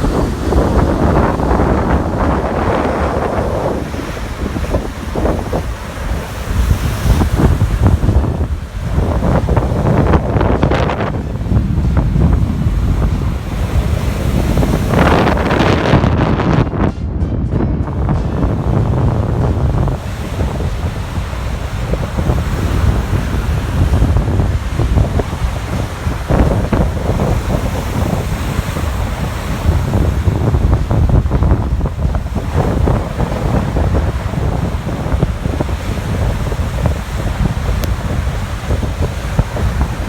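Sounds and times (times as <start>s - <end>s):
storm surf breaking on beach: 0.0s - 40.0s
wind buffeting microphone: 0.0s - 40.0s.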